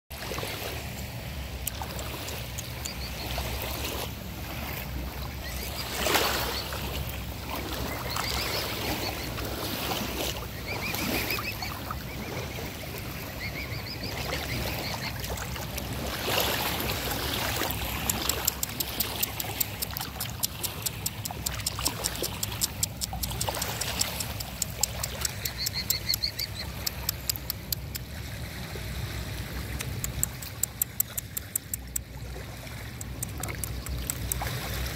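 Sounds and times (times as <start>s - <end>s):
small waves lapping: 0.1s - 34.9s
swan dabbling bill in water: 0.2s - 34.9s.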